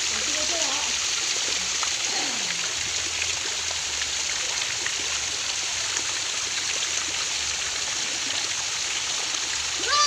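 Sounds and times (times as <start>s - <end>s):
running water rushing: 0.0s - 10.0s
small splashes and drips: 0.0s - 10.0s.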